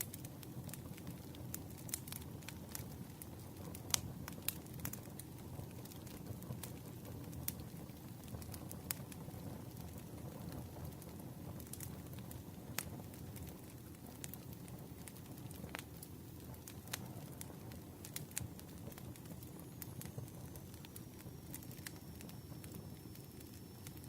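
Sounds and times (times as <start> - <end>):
campfire crackling: 0.0 - 24.0
low rumble of flames: 0.0 - 24.0.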